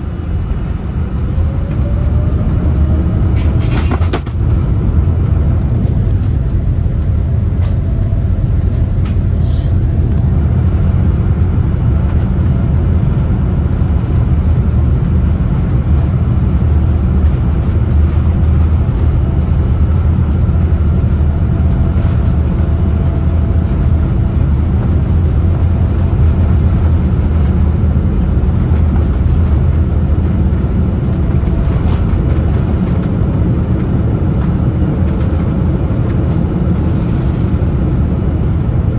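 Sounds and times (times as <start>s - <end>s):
jet engines and airflow rumble: 0.0s - 38.9s.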